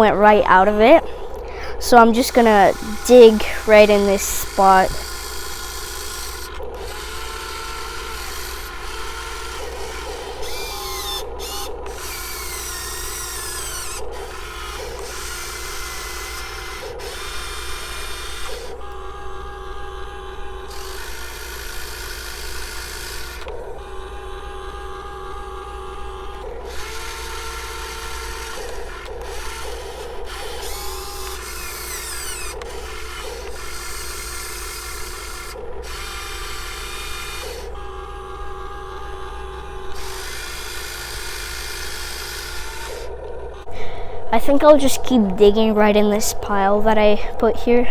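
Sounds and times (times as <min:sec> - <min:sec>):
small electric motors whining: 0:00.0 - 0:47.9.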